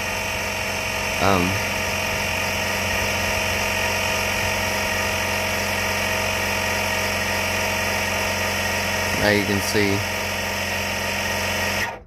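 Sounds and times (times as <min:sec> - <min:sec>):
air compressor running with whining hum: 0:00.0 - 0:12.0.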